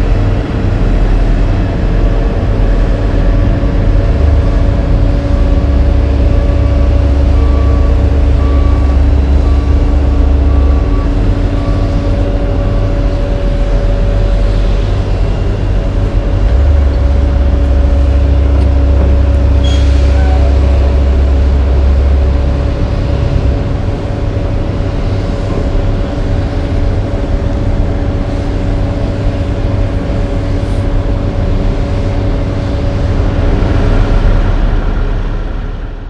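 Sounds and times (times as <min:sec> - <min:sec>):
heavy diesel engines rumbling: 0:00.0 - 0:36.0
steady hum: 0:00.0 - 0:36.0.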